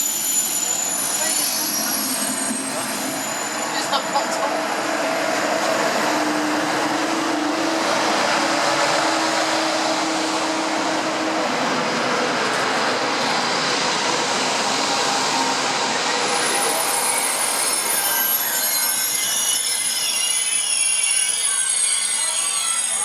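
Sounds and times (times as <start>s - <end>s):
train running on rails: 0.0s - 23.0s.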